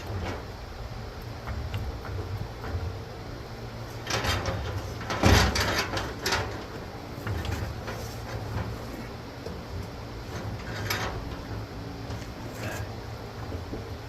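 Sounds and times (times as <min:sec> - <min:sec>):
knocks and rattles: 0:00.0 - 0:00.6, 0:01.4 - 0:03.2, 0:03.9 - 0:13.9
low steady hum: 0:00.0 - 0:14.0.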